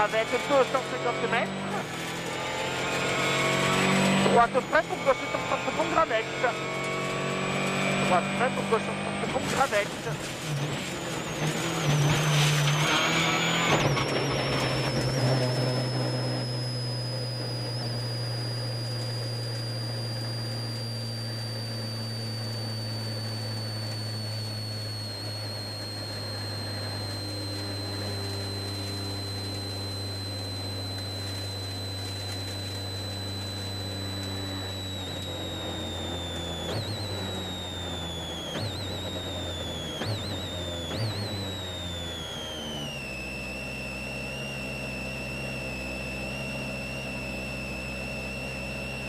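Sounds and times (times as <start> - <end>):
high drivetrain whine: 0.0 - 49.0
rally car engine running: 0.0 - 49.0.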